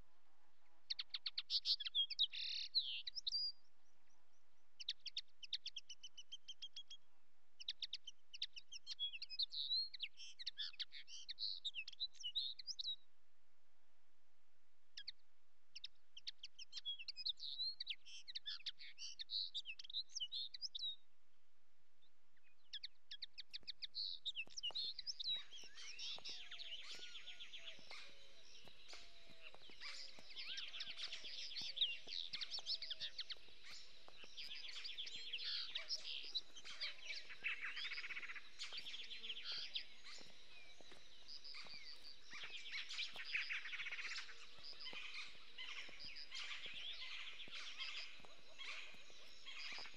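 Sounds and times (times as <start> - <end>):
low repeated bird call: 0.0 - 13.2, 21.9 - 49.9
small birds chirping: 0.0 - 13.2, 14.8 - 49.9.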